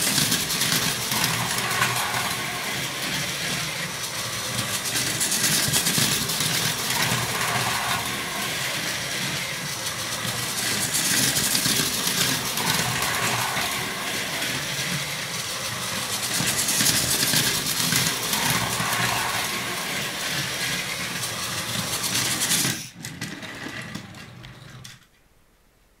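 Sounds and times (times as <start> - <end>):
toy train motor whirring: 0.0 - 25.1
wheels rattling over track: 0.0 - 25.2.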